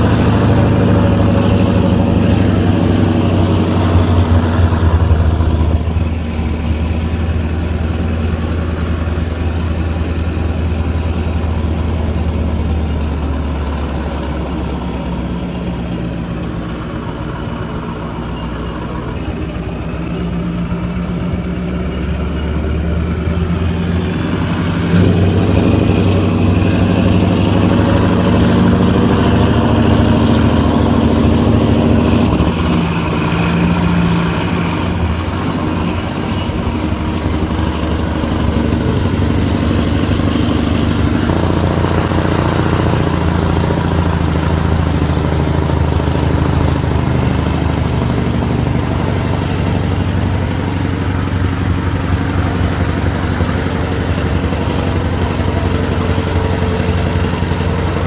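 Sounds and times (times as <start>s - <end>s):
diesel truck engine: 0.0s - 58.0s.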